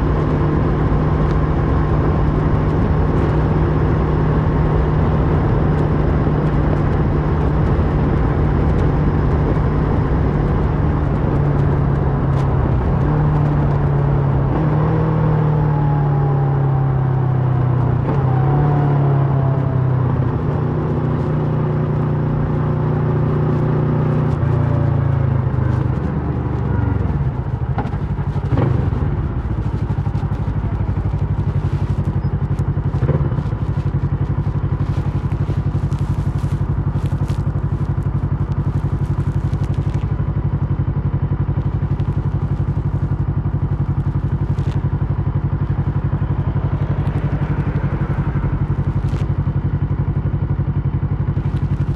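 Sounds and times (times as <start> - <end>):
motorcycle engine slowing and idling: 0.0 - 51.9.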